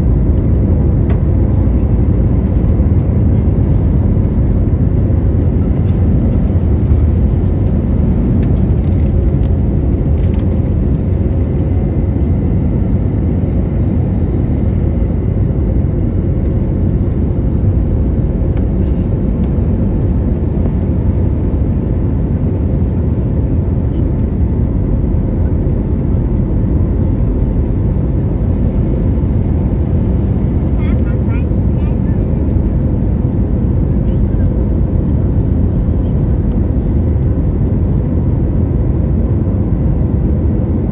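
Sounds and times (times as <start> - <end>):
jet engines and airflow in cabin: 0.0 - 40.9.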